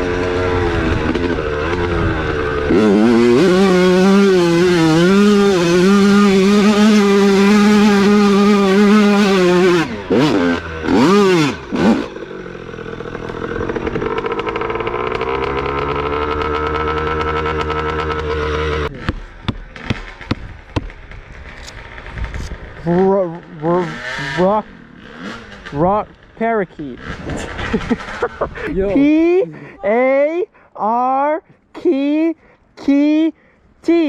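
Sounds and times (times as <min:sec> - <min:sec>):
dirt bike engine revving: 0:00.0 - 0:30.2.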